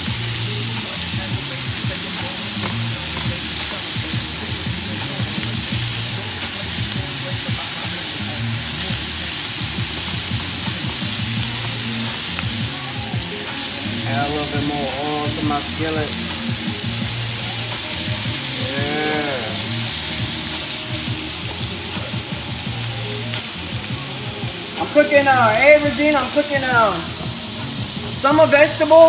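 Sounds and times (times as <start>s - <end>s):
shrimp sizzling in grill pan: 0.0s - 29.0s.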